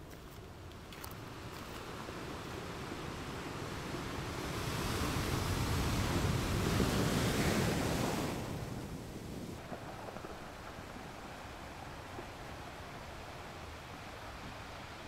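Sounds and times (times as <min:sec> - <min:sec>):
wind and surf rushing: 0:01.2 - 0:15.0.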